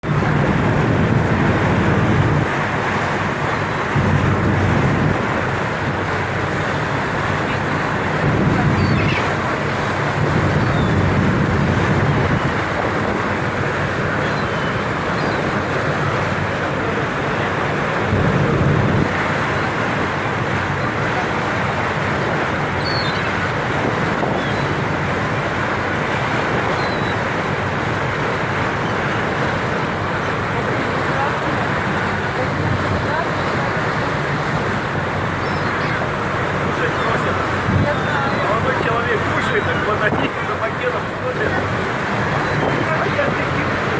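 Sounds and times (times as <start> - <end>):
sea and wind rushing: 0.0 - 43.9
wind buffeting microphone: 0.0 - 43.9.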